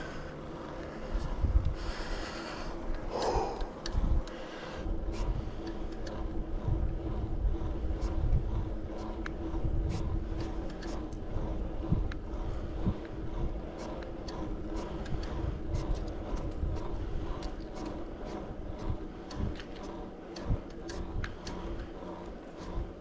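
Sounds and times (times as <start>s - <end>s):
bicycle clicks and ticks: 0.0s - 23.0s
low wind rumble: 0.0s - 23.0s
steady hum: 0.0s - 23.0s.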